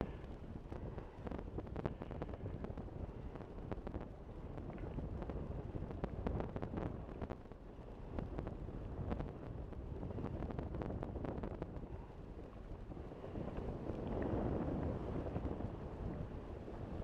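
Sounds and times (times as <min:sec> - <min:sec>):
crackles: 0:00.0 - 0:16.3
wind buffeting microphone: 0:00.0 - 0:17.0.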